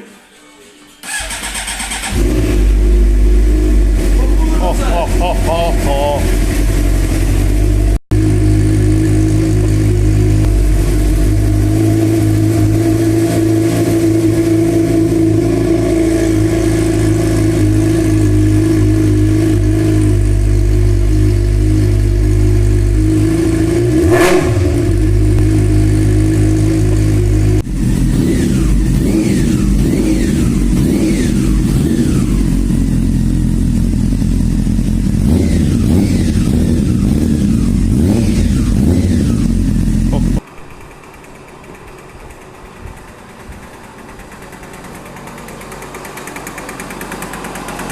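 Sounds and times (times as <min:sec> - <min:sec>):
motorcycle engine idling: 0:01.0 - 0:47.9
motorcycle engine revving: 0:01.0 - 0:47.9.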